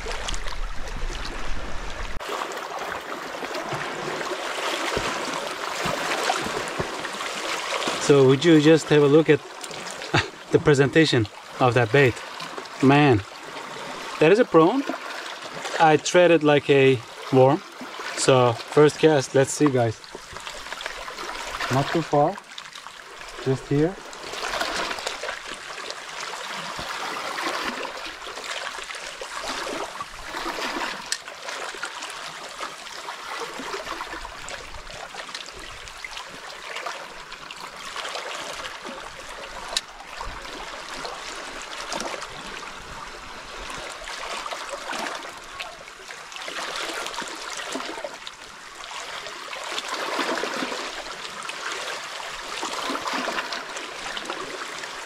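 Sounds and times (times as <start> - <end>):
waves lapping among rocks: 0.0 - 55.0.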